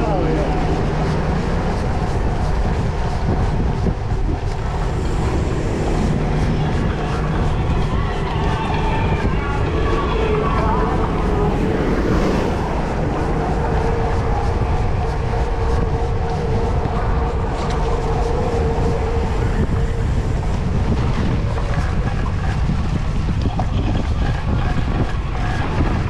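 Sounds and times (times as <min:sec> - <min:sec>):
steady hum: 0:00.0 - 0:26.0
wind buffeting microphone: 0:00.0 - 0:26.0.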